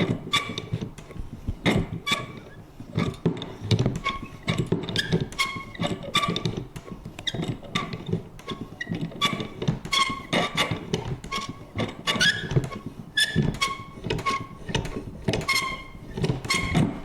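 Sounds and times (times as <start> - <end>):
mechanism creaking and squeaking: 0.0 - 17.0.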